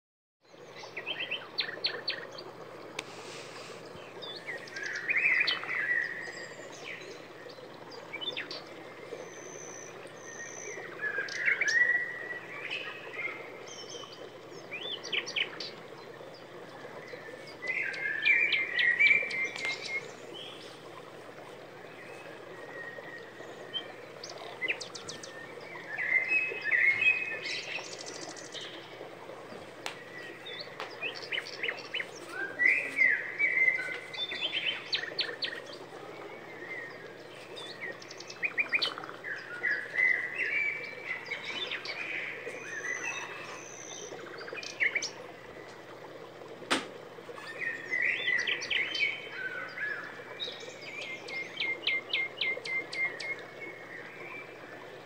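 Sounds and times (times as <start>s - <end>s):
small birds chirping and trilling: 0.4s - 46.5s, 47.2s - 55.0s.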